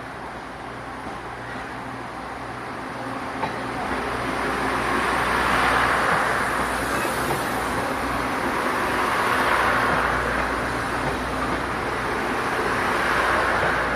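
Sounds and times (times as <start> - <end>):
train wheels on rails: 0.0 - 13.9.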